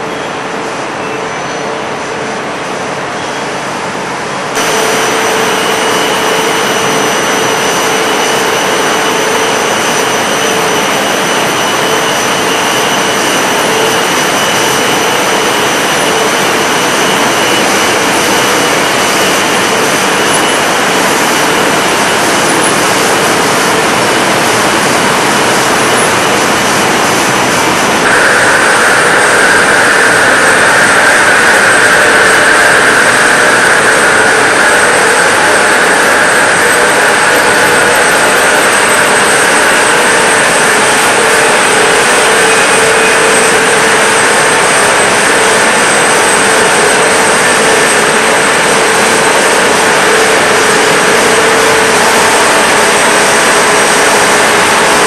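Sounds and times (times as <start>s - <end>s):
factory machinery hum and whine: 0.0s - 55.0s
high whine: 0.0s - 55.0s.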